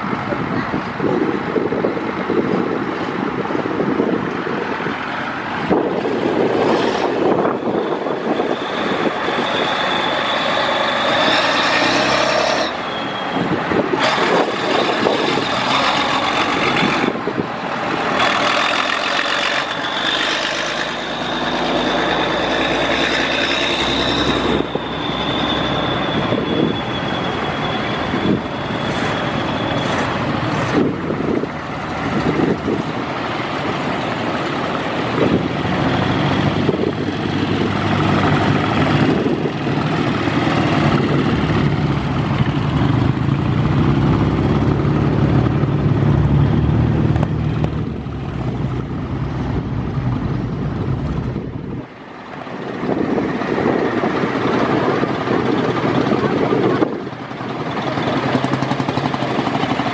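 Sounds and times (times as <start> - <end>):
heavy vehicles driving past: 0.0 - 59.9.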